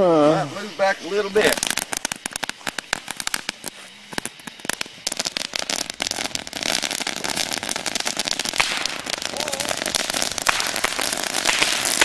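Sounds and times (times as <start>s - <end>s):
dense crackling barrage: 0.0s - 12.0s
bottle rockets launching: 1.3s - 12.0s.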